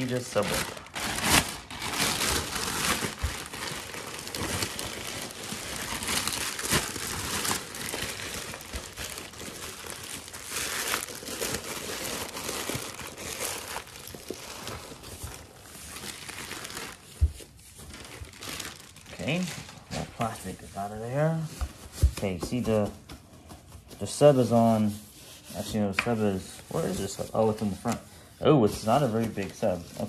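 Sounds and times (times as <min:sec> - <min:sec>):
plastic wrapping crinkling: 0:00.0 - 0:30.0.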